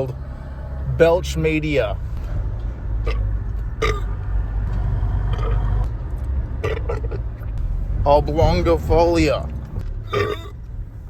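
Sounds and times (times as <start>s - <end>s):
car rumble from inside cabin: 0.0s - 11.0s.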